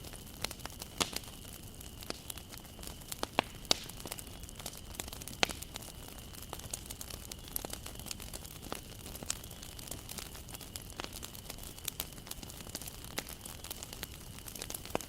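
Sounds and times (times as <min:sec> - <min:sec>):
bonfire crackling and popping: 0:00.0 - 0:15.0
fire hissing: 0:00.0 - 0:15.0.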